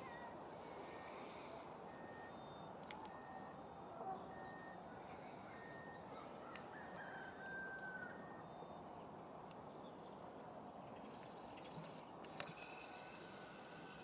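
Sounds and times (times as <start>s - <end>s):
distant bird calls: 0.0s - 14.0s.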